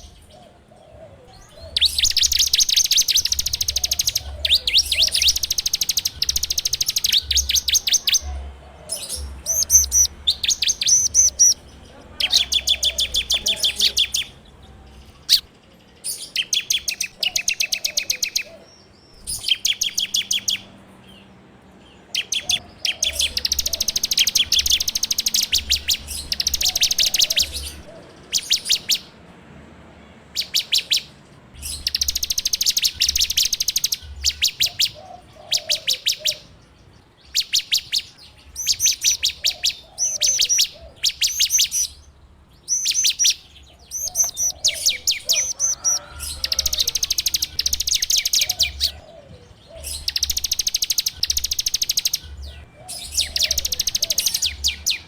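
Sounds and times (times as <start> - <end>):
bird singing rattling chatter: 0.0 - 55.0.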